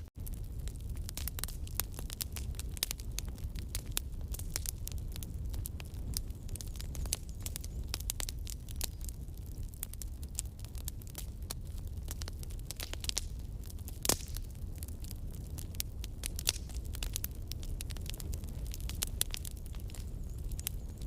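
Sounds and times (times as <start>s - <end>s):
low rumble of flames: 0.0s - 21.0s
wood crackling and popping: 0.0s - 21.0s.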